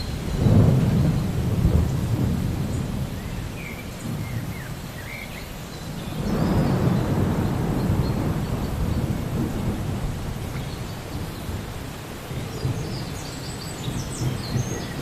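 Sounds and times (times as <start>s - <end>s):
thunder rumbling: 0.0s - 5.1s, 5.8s - 15.0s
steady rain: 0.0s - 15.0s.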